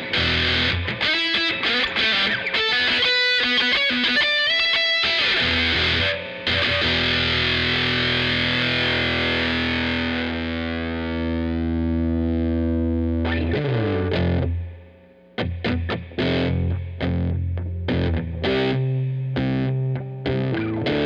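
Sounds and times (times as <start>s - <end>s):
fuzzed bass guitar notes: 0.0s - 1.5s, 5.3s - 21.0s.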